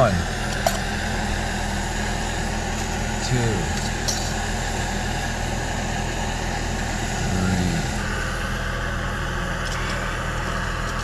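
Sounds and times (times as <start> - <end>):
camp stove burner hissing: 0.0 - 11.0.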